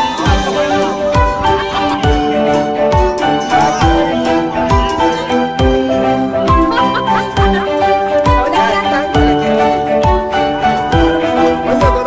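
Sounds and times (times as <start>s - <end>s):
background music with held notes: 0.0s - 12.0s
deep thumping beat: 0.2s - 11.2s.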